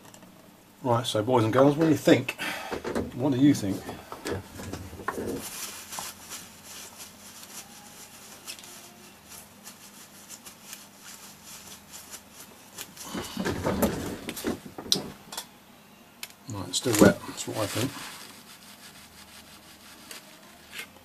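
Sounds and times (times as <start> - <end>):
rustling and handling: 2.1 - 15.4, 16.8 - 21.0.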